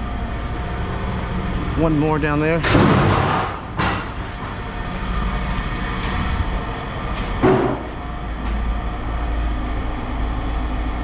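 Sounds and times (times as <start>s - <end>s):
heavy machinery rumbling: 0.0s - 11.0s.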